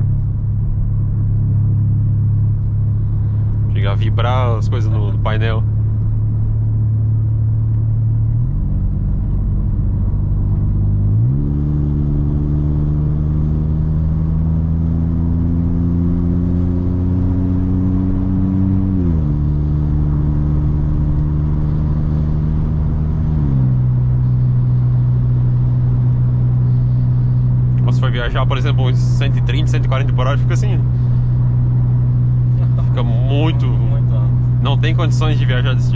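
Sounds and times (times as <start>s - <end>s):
loud engine drone in car cabin: 0.0s - 35.9s.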